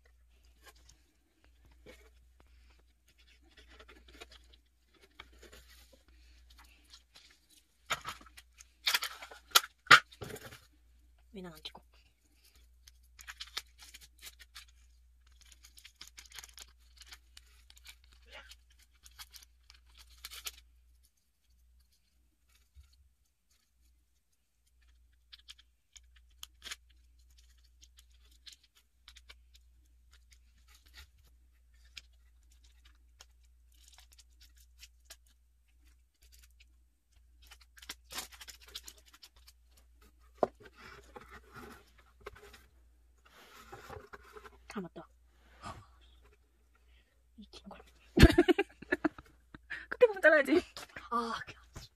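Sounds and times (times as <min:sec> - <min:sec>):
cardboard and twine rustling: 0:00.0 - 0:10.9, 0:11.6 - 0:46.8.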